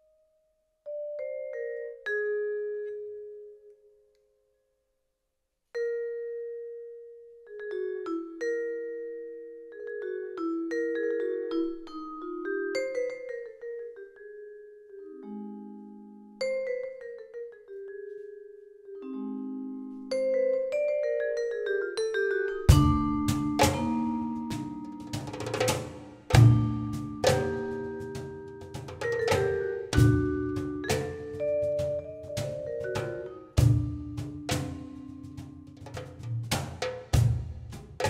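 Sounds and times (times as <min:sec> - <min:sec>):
vibraphone and marimba playing: 0:00.9 - 0:03.5, 0:05.8 - 0:36.9.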